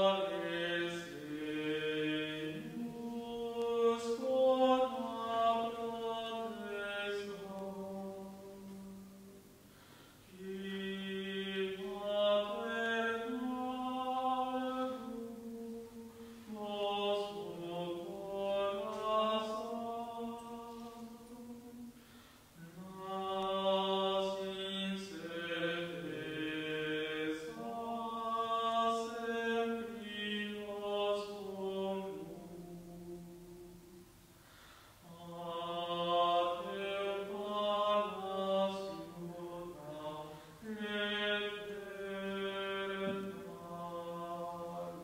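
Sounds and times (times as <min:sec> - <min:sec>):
chant sung in sustained notes: 0:00.0 - 0:45.0.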